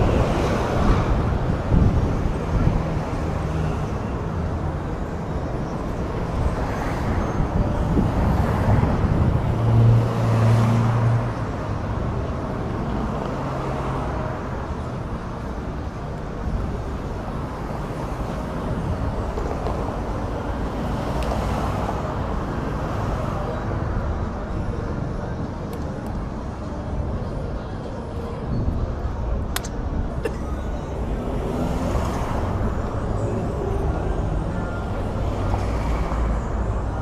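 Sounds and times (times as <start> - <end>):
vehicle engines and tyres: 0.0 - 37.0.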